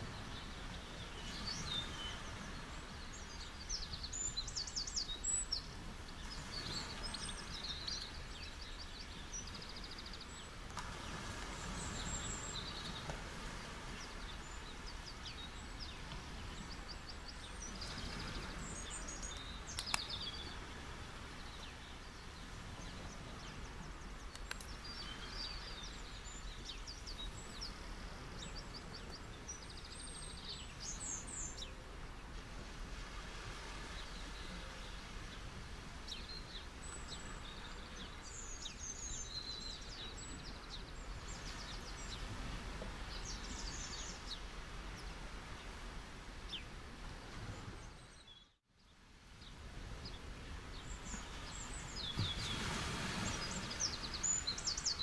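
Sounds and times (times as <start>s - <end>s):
sea waves washing onto beach: 0.0s - 48.2s, 49.2s - 55.0s
small birds chirping: 0.1s - 13.1s, 13.9s - 32.3s, 36.0s - 42.3s, 43.0s - 45.8s, 47.6s - 55.0s.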